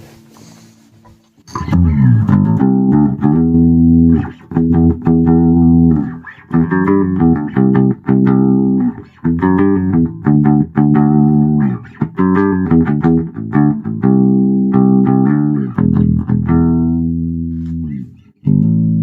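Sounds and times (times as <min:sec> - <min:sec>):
faint low amp hum: 0:00.0 - 0:19.0
bass guitar riff: 0:01.4 - 0:19.0.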